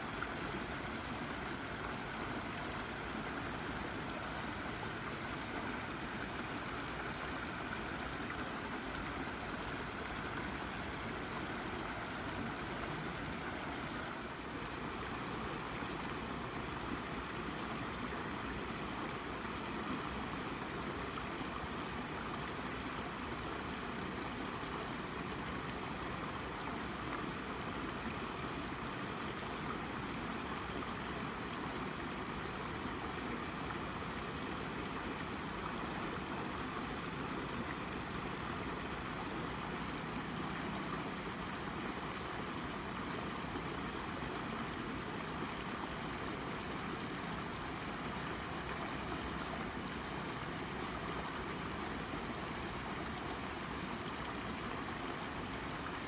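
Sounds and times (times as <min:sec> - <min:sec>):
brook babbling over rock: 0:00.0 - 0:56.0.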